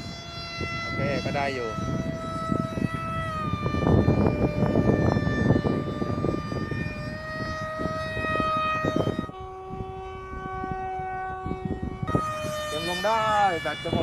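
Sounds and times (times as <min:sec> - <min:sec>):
model plane electric motor whining: 0:00.0 - 0:14.0
wind buffeting microphone: 0:00.0 - 0:14.0.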